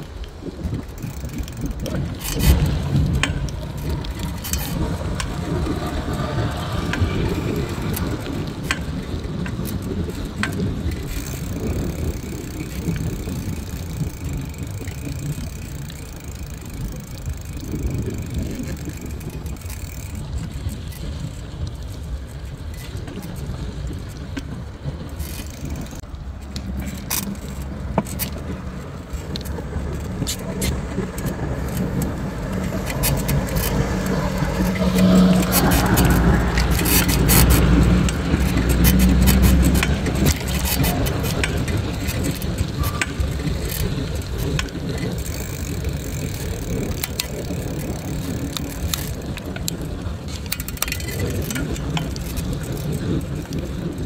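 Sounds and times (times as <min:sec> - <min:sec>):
city traffic: 0:00.0 - 0:54.0.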